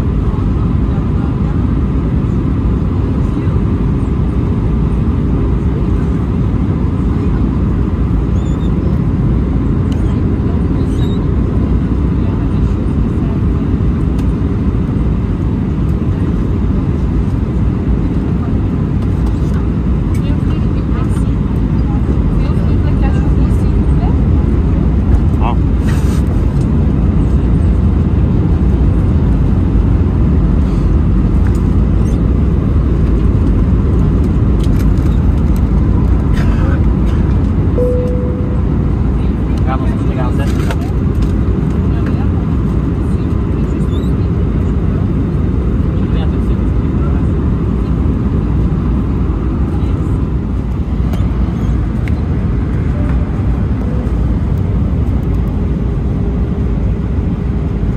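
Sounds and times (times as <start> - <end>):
airliner cabin low rumble: 0.0 - 57.9
jet engines and airflow: 0.0 - 57.9.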